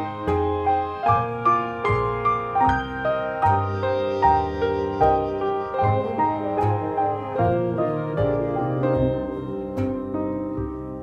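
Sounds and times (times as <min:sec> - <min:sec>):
low bass notes: 0:00.0 - 0:11.0
piano notes: 0:00.0 - 0:11.0.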